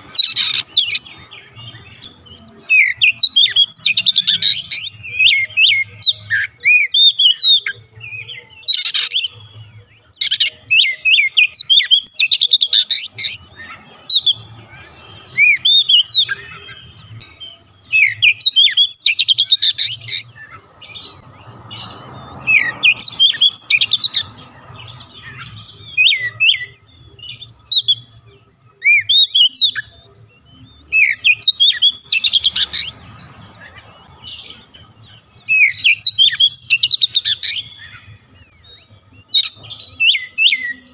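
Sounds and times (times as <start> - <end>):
songbird whistling and trilling: 0.0 - 33.4, 34.2 - 40.9.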